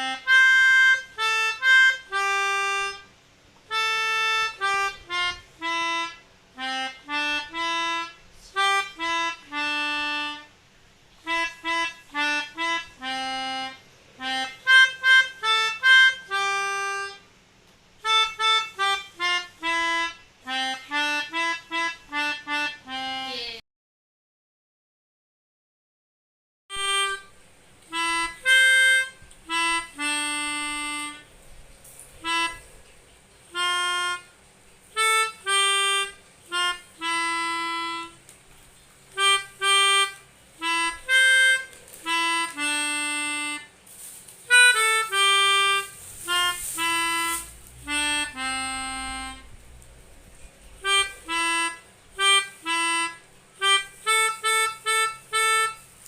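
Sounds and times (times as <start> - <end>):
melodica playing a simple melody: 0.0 - 17.4, 18.0 - 23.6, 26.7 - 49.8, 50.6 - 56.0.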